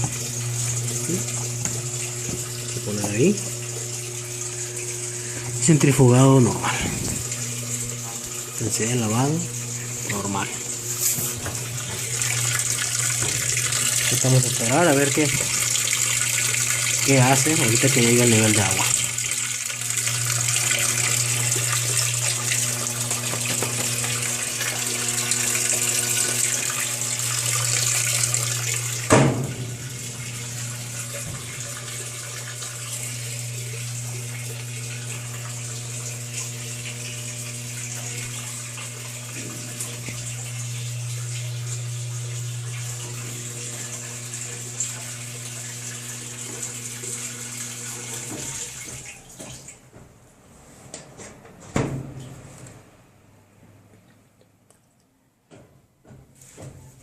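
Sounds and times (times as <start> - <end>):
water pouring into tub: 0.0 - 49.8
washing machine hum: 0.0 - 54.4.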